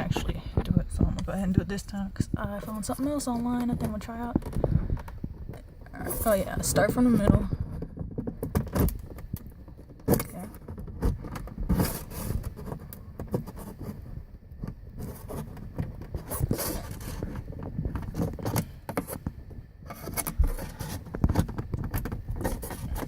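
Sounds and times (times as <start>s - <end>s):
plastic part scraping and clicking: 2.9s - 23.0s.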